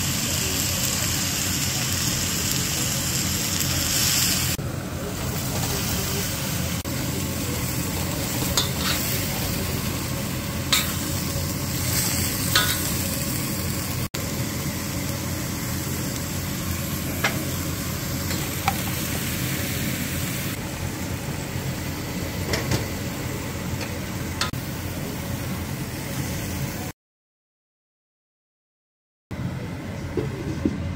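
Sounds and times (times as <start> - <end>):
food sizzling in a wok: 0.0 - 27.0.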